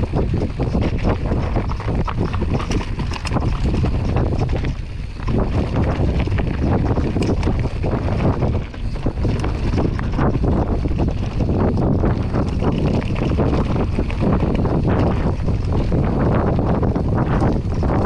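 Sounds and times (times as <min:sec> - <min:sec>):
bike rattling and clattering: 0:00.0 - 0:18.0
tyres crunching over loose rock: 0:00.0 - 0:18.0
wind buffeting microphone: 0:00.0 - 0:18.0.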